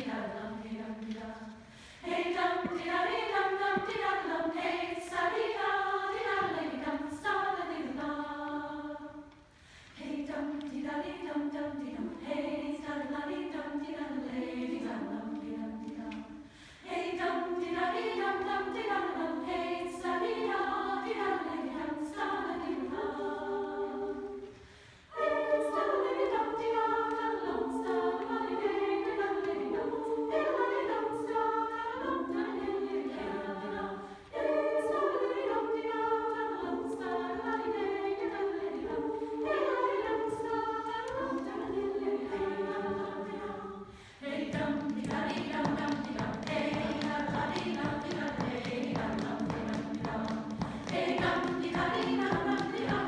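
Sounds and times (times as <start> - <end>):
women's choir singing a cappella: 0.0 - 53.0.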